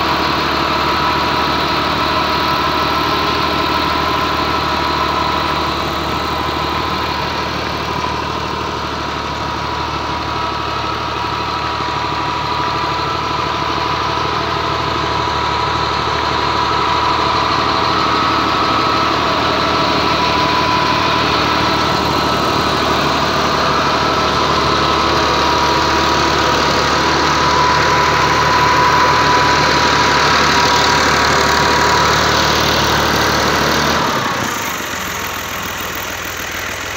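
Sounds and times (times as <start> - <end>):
rotavator high whine: 0.0 - 36.9
tractor diesel engine under load: 0.0 - 36.9.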